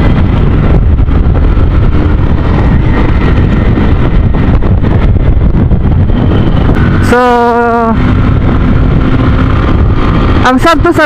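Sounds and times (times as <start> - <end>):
motorcycle engine running: 0.0 - 11.0
wind buffeting a microphone: 0.0 - 11.0.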